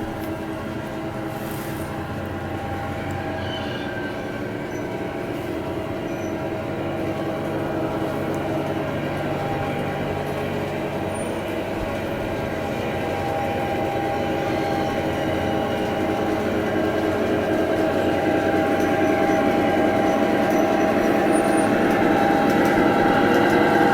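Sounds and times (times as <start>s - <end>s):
model train rolling on track: 0.0s - 23.9s.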